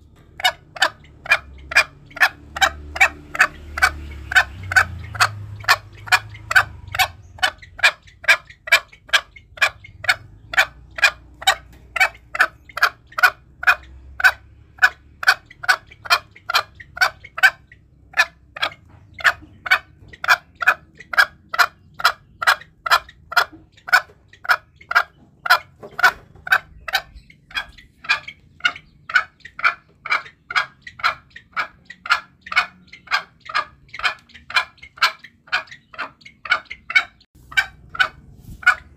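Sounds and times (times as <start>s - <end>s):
junglefowl calling sharp notes: 0.0s - 38.9s.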